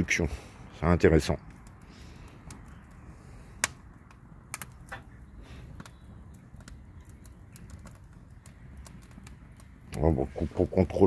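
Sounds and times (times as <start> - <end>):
charcoal and wood crackling: 0.0 - 11.0
sharp pops of burning wood: 0.0 - 11.0.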